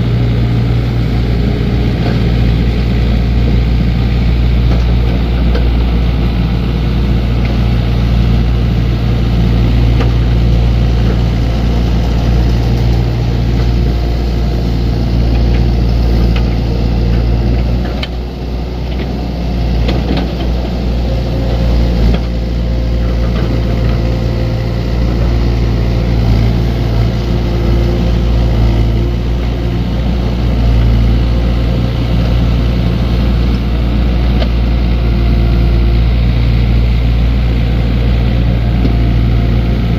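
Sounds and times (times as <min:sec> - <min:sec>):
diesel engines rumbling: 0:00.0 - 0:39.9.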